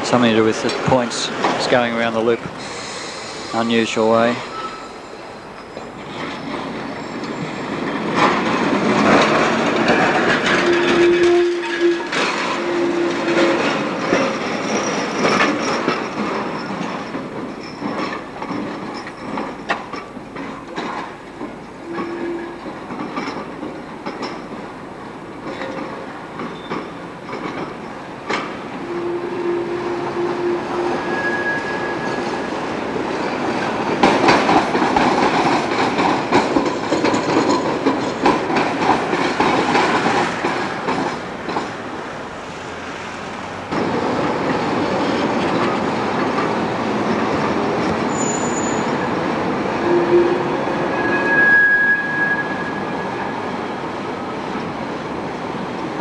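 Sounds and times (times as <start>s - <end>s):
wheels clattering over rail joints: 0.0s - 2.9s, 3.6s - 56.0s
tram rolling rumble: 0.0s - 56.0s
wheel squeals: 0.6s - 40.5s, 44.5s - 53.7s.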